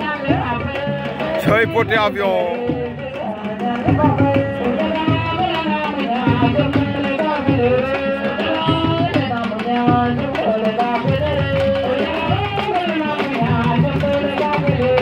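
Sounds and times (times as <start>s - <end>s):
hand drum rhythm: 0.0s - 15.0s.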